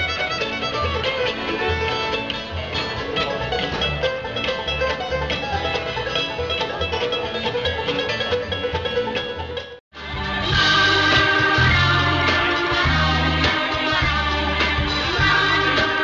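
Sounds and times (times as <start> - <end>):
bluegrass string band playing: 0.0 - 16.0
fast picked strings: 0.0 - 16.0
upright bass: 0.0 - 16.0.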